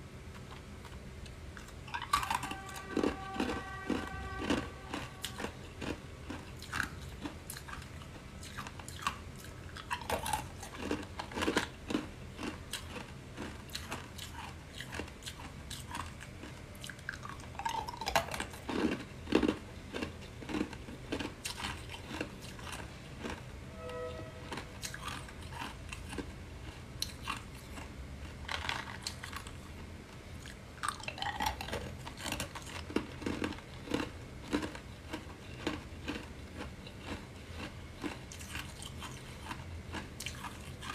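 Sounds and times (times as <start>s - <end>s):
quiet chewing: 0.3s - 23.5s, 24.5s - 40.9s
ice cubes crunching: 1.6s - 7.9s, 8.5s - 23.4s, 24.8s - 29.6s, 30.4s - 40.9s.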